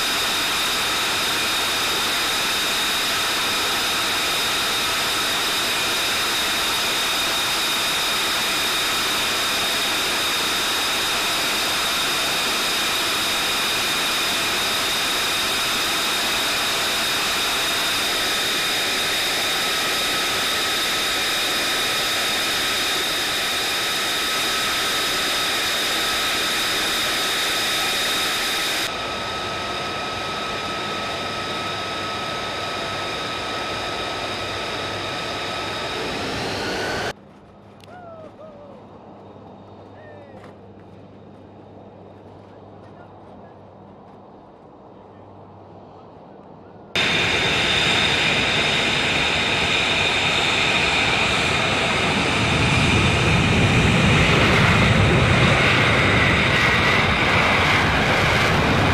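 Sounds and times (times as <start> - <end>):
jet engine idling whine: 0.0 - 58.9.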